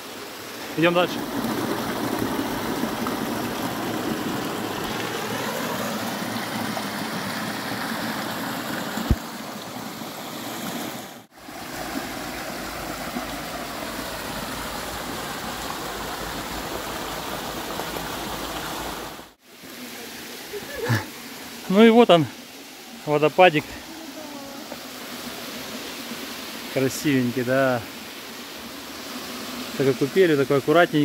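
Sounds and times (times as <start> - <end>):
waterfall splashing into pool: 0.0 - 31.0.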